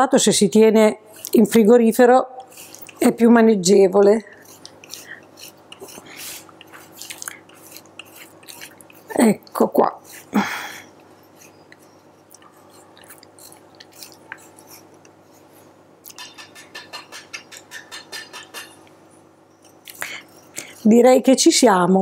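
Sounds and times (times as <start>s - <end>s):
grater rasping chocolate: 0.8s - 18.8s, 19.9s - 21.7s.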